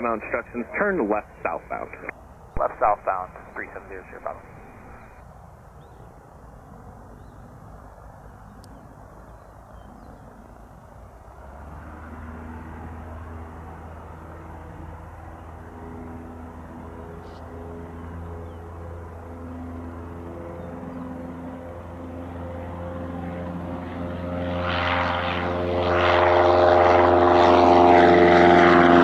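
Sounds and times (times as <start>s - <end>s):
outdoor ambient noise: 0.0s - 29.0s
propeller plane engine drone: 0.0s - 29.0s.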